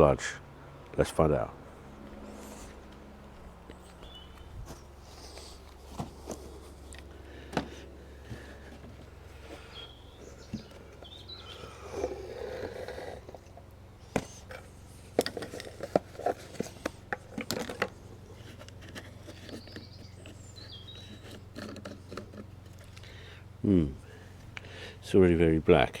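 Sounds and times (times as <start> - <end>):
birds chirping: 0.0 - 15.2, 15.8 - 25.3.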